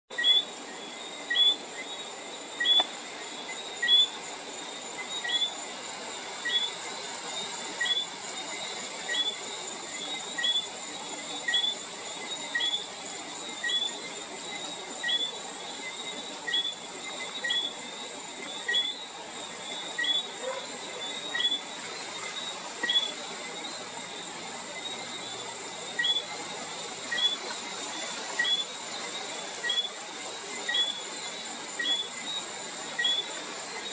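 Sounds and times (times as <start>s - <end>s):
high-pitched insect trill: 0.1s - 33.9s.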